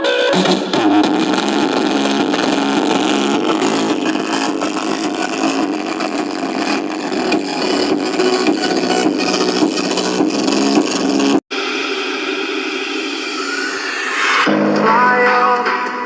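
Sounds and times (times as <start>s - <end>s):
loud speaker playback: 0.0s - 11.4s, 13.3s - 16.0s.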